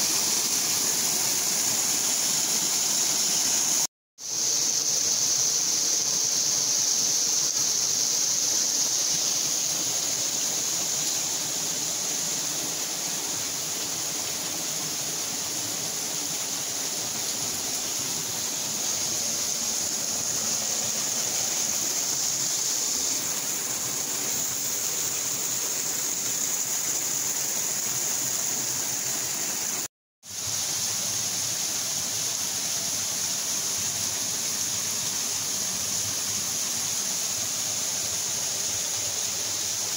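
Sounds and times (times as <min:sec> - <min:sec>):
waterfall rushing: 0:07.6 - 0:39.9.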